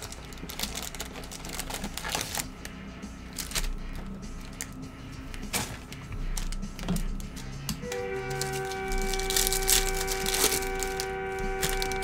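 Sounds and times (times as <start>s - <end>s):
cards clicking and rustling: 0.0s - 12.0s.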